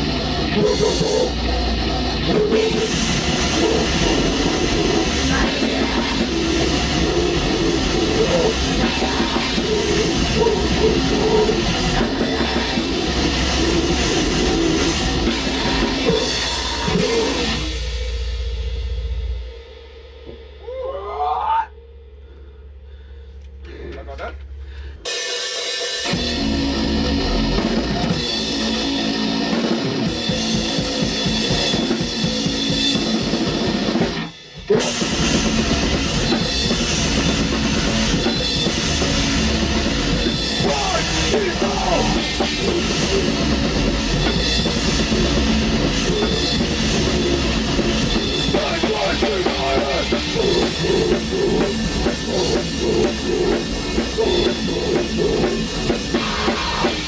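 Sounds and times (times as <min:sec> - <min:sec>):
black metal band playing: 0:00.0 - 0:21.6, 0:25.0 - 0:57.0.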